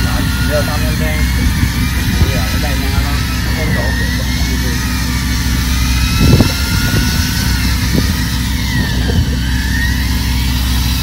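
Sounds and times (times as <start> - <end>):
boat machinery humming: 0.0 - 11.0.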